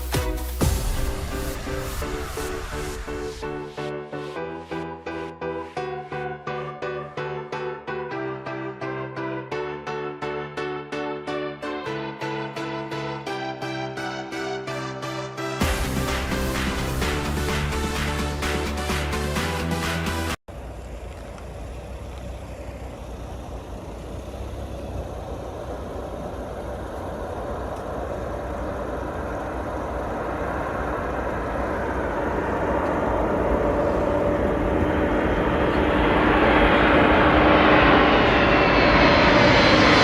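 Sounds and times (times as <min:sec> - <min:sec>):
large engine approaching: 0:00.0 - 0:40.0.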